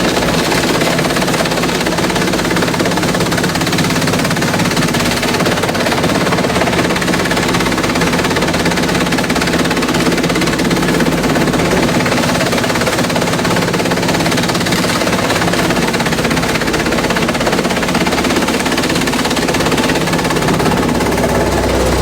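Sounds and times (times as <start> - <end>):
shredder engine drone: 0.0 - 22.0.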